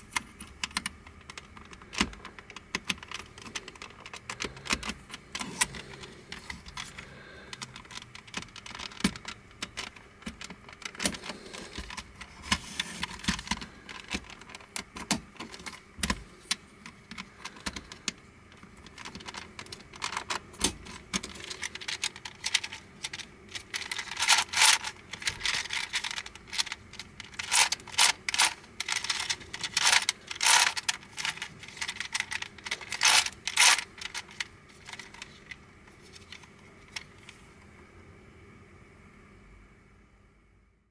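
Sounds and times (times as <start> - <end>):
plastic puzzle clicking and clattering: 0.0 - 37.4.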